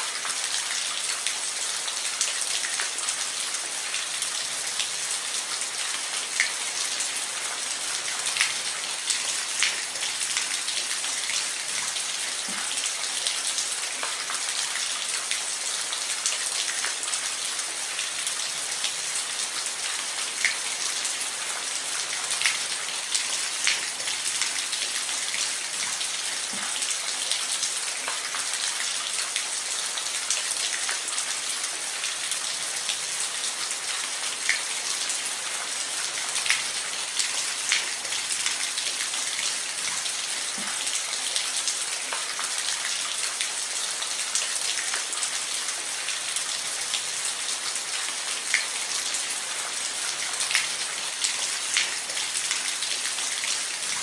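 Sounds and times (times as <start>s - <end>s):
rain hissing on a roof: 0.0s - 54.0s.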